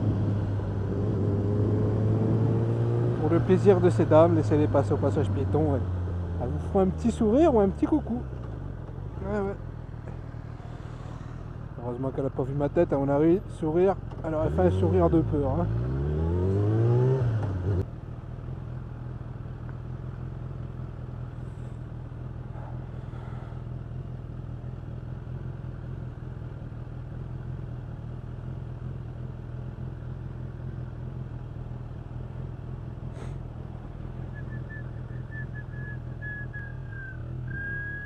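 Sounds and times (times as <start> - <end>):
motorcycle engine revving and idling: 0.0 - 38.0.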